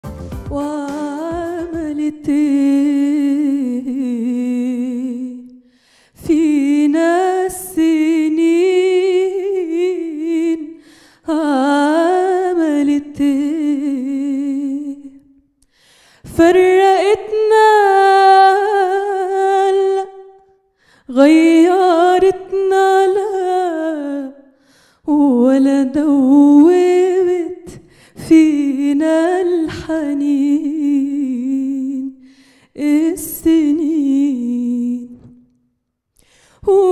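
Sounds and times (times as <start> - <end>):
woman singing unaccompanied: 0.5 - 5.6, 6.2 - 15.4, 16.3 - 20.5, 21.1 - 24.5, 25.1 - 35.5, 36.6 - 36.9.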